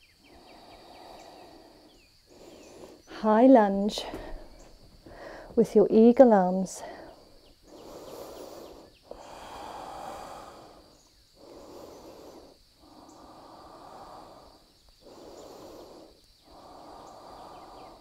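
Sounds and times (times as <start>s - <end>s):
woman breathing slowly: 0.0s - 5.6s, 6.7s - 18.0s.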